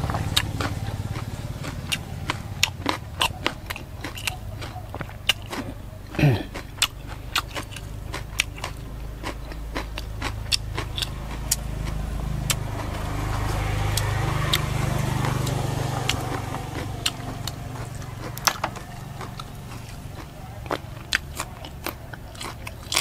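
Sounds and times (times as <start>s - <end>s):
person chewing raw vegetables: 0.0s - 23.0s
vehicle engine hum: 0.0s - 23.0s.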